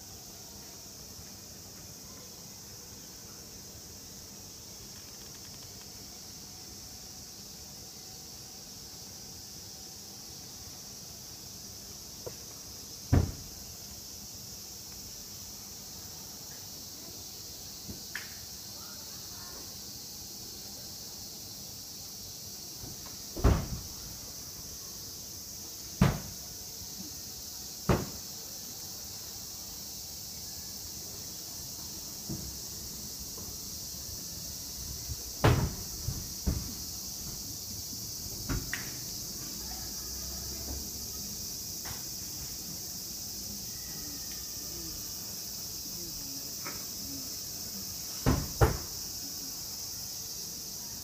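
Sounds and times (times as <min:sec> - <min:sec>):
high insect hiss: 0:00.0 - 0:51.0.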